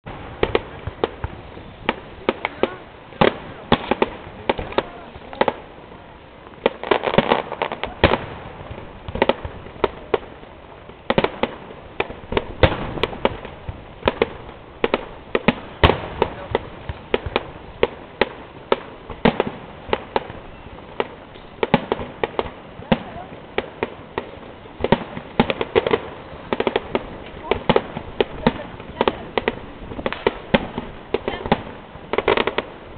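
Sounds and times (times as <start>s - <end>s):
fireworks bursting with crackle: 0.0s - 32.9s.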